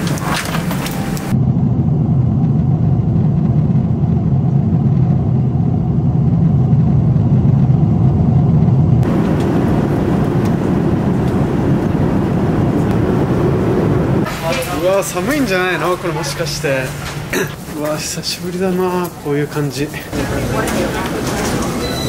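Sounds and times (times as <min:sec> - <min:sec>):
jet airliner cabin drone: 0:00.0 - 0:17.7.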